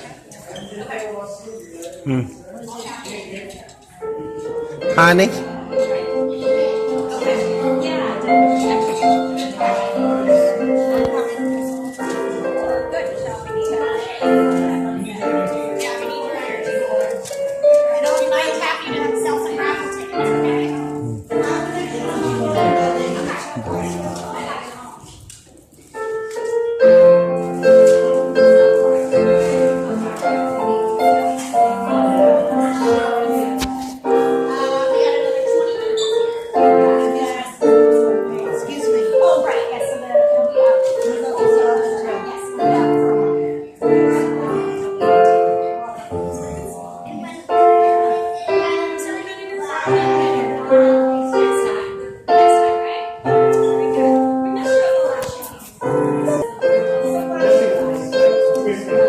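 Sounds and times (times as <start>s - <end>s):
piano music: 4.0s - 24.7s, 26.0s - 59.0s.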